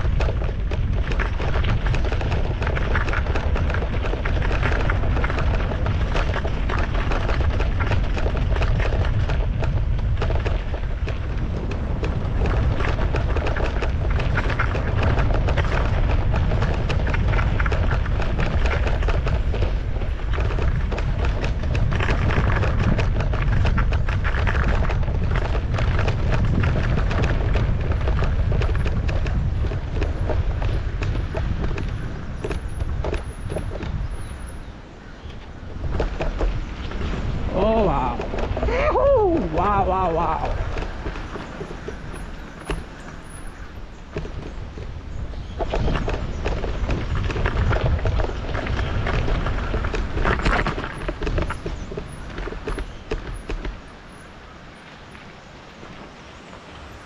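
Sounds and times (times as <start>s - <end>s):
bike rattling: 0.0s - 57.0s
tyres crackling on dirt trail: 0.0s - 57.0s
wind buffeting microphone: 0.0s - 57.0s.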